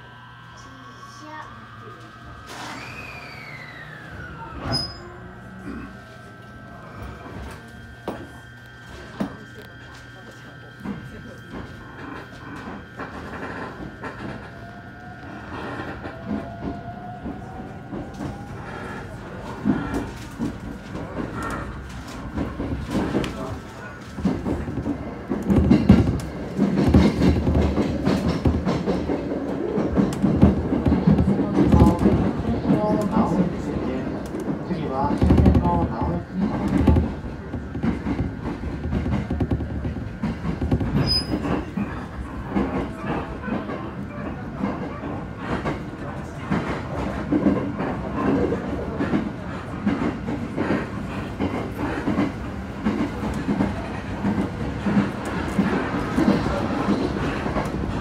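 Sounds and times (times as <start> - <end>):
train rumbling: 0.0 - 58.0
wheels clacking on rails: 10.7 - 58.0.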